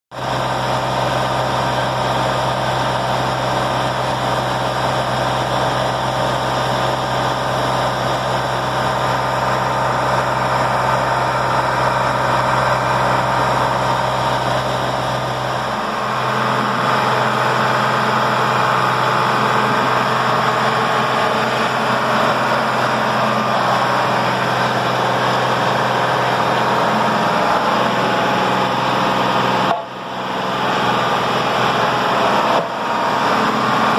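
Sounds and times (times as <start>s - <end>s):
heavy machinery engine running: 0.1s - 33.9s.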